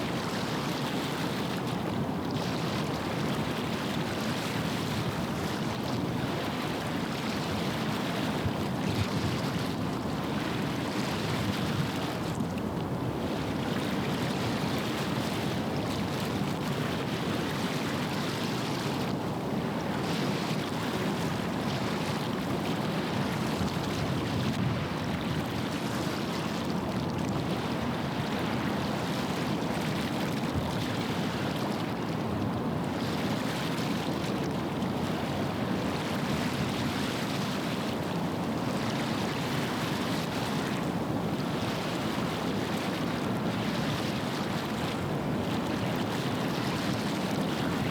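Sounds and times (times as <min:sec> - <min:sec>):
water at shore: 0:00.0 - 0:47.9
wind: 0:00.0 - 0:47.9.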